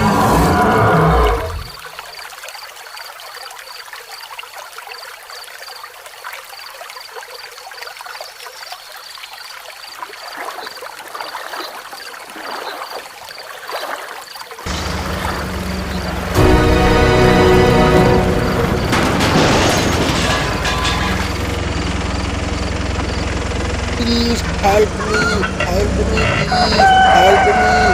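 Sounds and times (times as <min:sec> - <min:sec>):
water flowing and trickling: 0:00.0 - 0:27.9.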